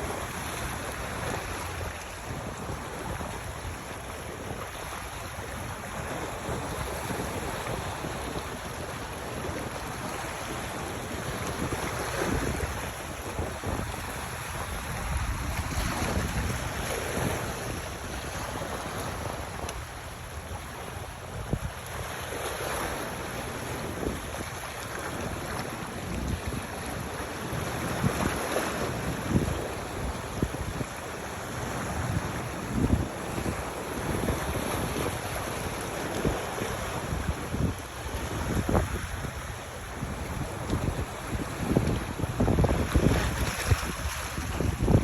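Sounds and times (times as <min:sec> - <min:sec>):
sea water washing: 0:00.0 - 0:45.0
wind gusting over microphone: 0:00.0 - 0:45.0.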